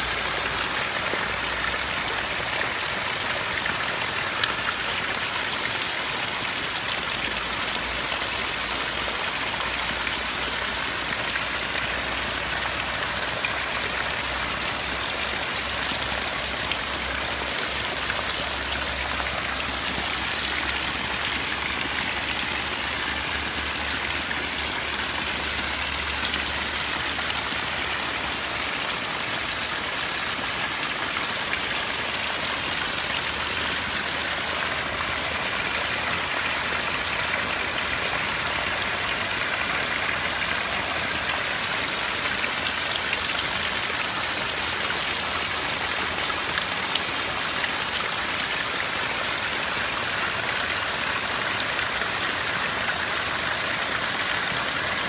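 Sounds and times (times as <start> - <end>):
heavy rain on trees: 0.0 - 55.0.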